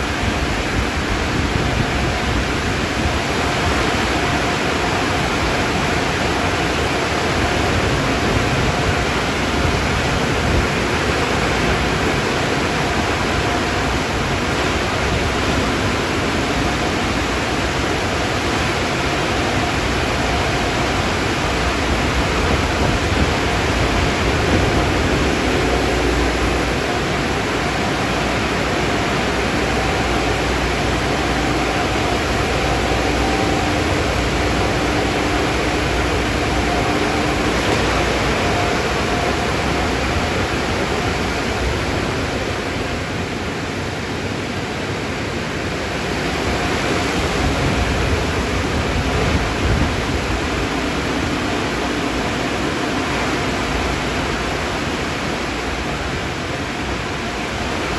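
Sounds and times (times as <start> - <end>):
car wash machinery rushing: 0.0 - 57.9
faint hum: 0.0 - 57.9.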